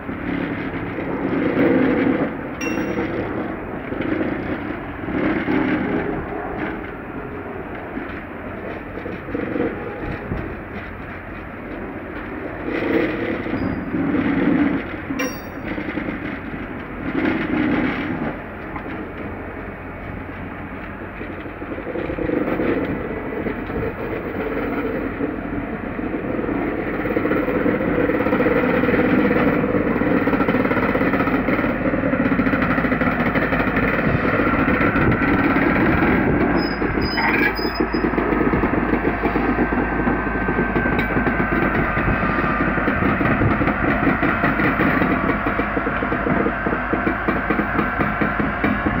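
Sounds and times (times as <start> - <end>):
train rolling past: 0.0 - 49.0.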